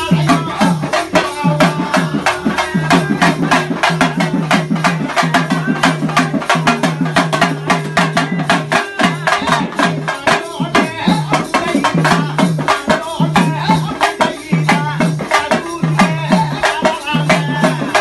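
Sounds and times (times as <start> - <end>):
fast percussion drum strokes: 0.0 - 18.0.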